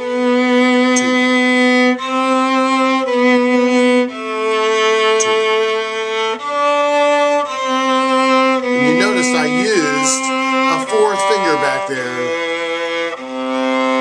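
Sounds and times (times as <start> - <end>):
viola bowed notes: 0.0 - 14.0.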